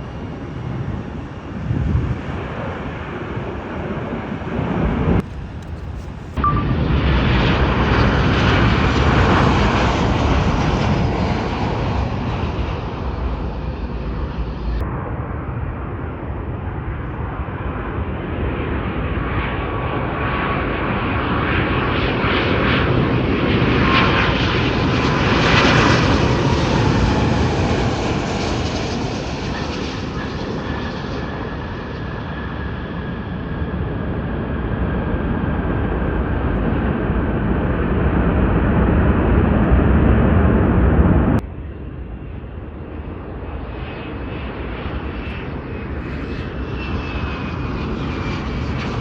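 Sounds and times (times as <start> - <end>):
airplane engines running: 0.0 - 49.0.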